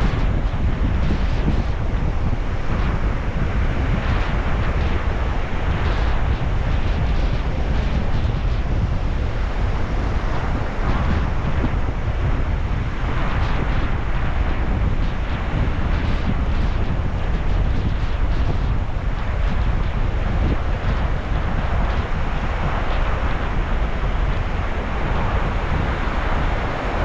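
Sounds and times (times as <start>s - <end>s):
sea waves washing on shore: 0.0s - 27.0s
wind buffeting microphone: 0.0s - 27.0s.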